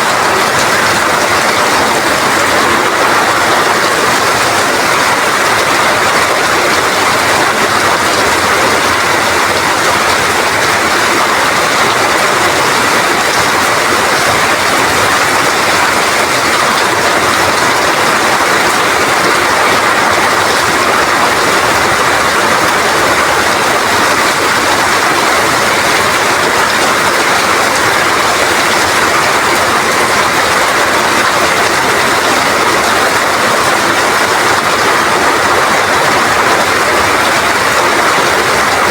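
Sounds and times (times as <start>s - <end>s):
rain with strong wind: 0.0s - 38.9s.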